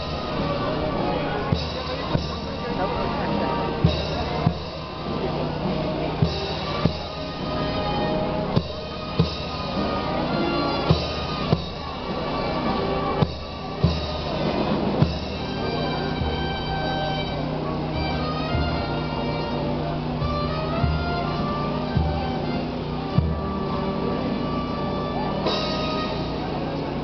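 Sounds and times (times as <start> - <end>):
band playing slow march: 0.0 - 27.0
drum strokes: 0.0 - 27.0.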